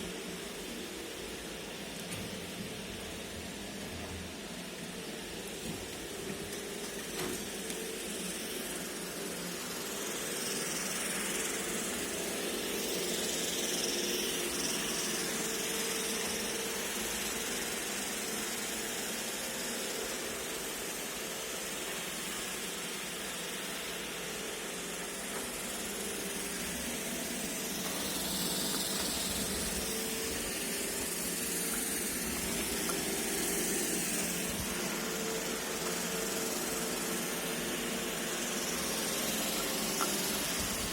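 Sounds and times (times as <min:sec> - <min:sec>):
robot vacuum whirring: 0:00.0 - 0:40.9.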